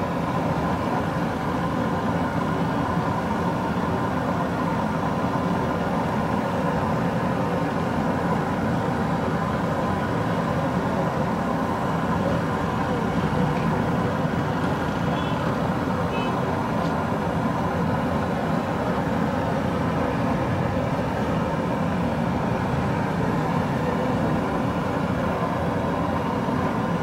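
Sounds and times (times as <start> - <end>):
steady engine-like hum: 0.0 - 27.0.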